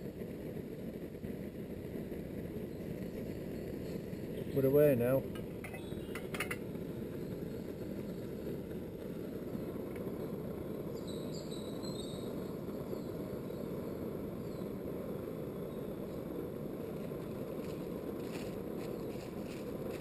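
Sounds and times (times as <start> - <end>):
camping stove burning with low roar: 0.0 - 20.0.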